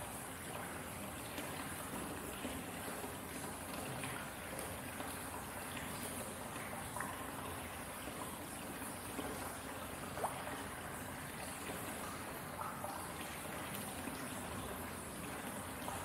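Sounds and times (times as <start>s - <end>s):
drips onto water: 0.0s - 16.0s.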